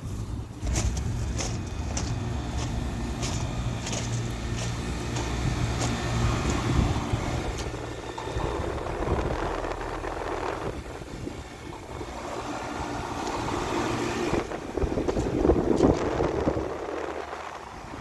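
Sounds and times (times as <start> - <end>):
steady low hum: 0.0 - 18.0
wind buffeting microphone: 0.0 - 18.0.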